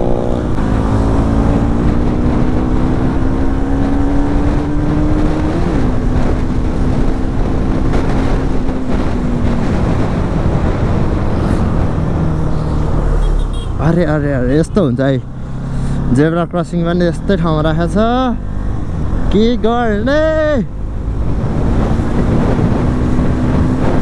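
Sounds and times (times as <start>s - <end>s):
wind rush on microphone: 0.0s - 24.0s.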